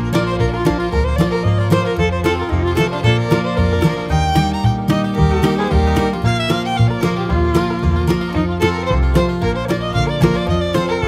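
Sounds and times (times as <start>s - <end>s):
upbeat bluegrass tune with fiddle: 0.0s - 11.0s.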